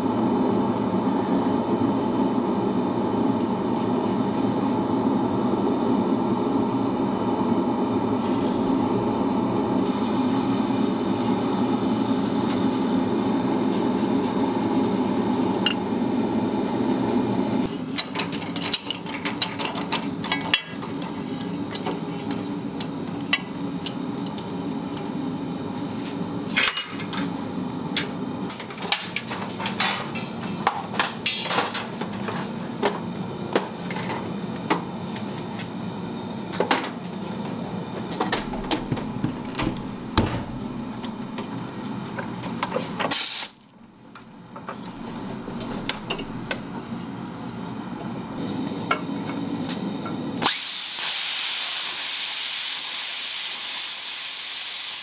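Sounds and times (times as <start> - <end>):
steady mechanical drone: 0.0 - 52.0.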